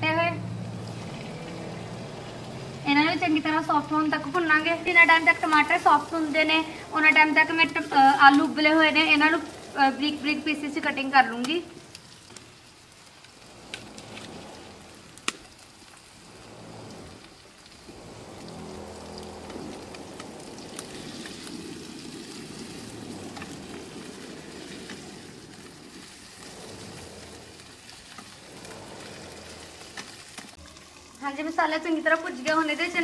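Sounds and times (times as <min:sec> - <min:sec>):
tomatoes and onion sizzling: 0:00.1 - 0:33.0.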